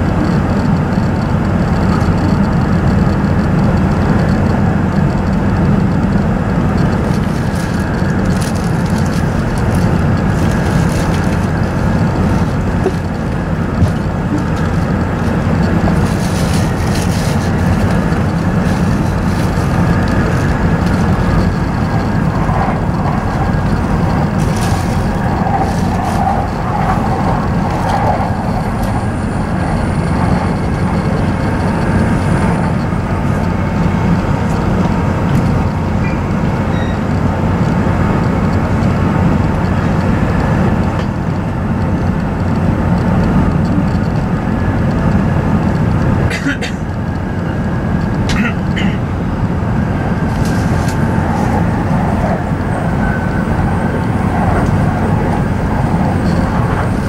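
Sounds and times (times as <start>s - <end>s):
train cabin rumble with hiss: 0.0s - 57.0s.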